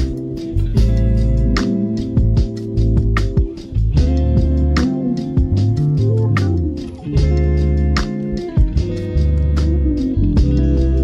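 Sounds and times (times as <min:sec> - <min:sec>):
instrumental music with bass and beat: 0:00.0 - 0:11.0.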